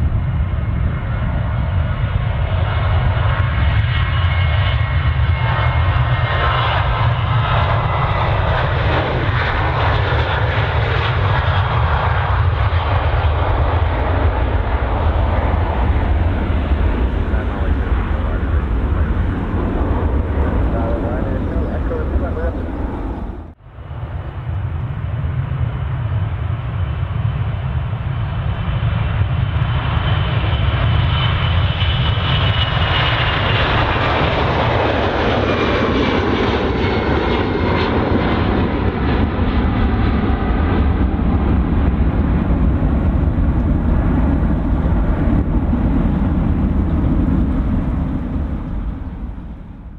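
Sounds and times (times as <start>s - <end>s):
jet engine high whine: 0.0s - 49.9s
jet engines low rumble: 0.0s - 49.9s.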